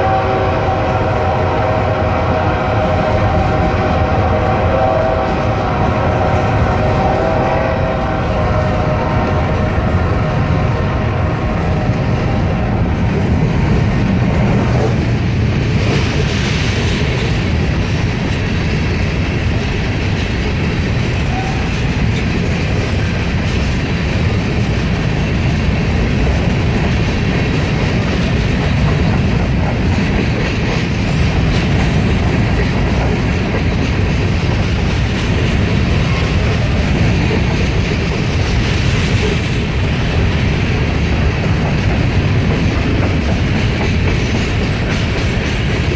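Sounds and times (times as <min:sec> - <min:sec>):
train wheels clattering on track: 0:00.0 - 0:45.9.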